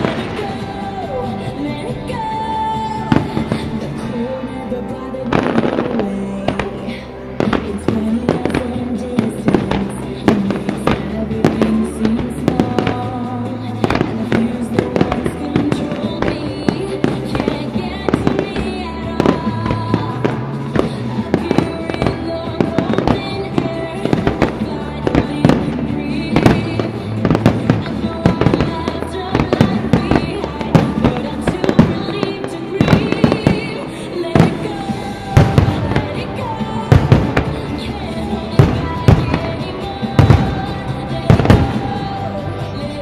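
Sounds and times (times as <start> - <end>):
fireworks bangs and crackles: 0.0 - 43.0
music: 0.0 - 43.0.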